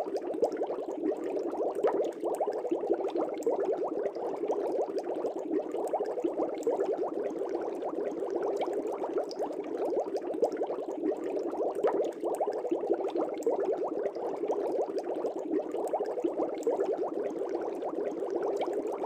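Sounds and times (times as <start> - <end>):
air bubbles in fish tank: 0.0 - 19.0.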